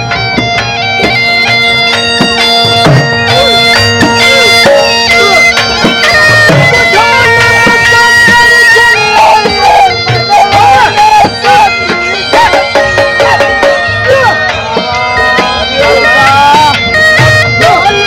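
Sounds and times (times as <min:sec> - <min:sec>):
drum strokes: 0:00.0 - 0:18.0
wind instrument melody: 0:00.0 - 0:18.0.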